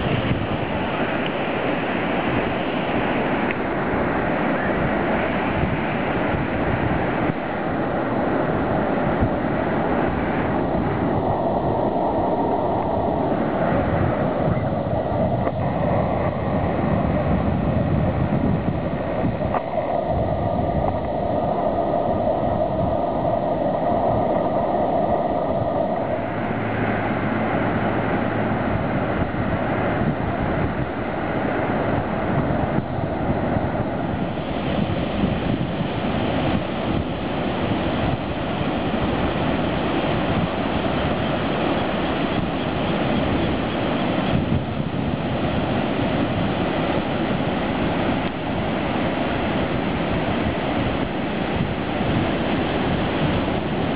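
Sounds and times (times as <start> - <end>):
ocean surf washing ashore: 0.0 - 53.9
wind buffeting microphone: 0.0 - 53.9.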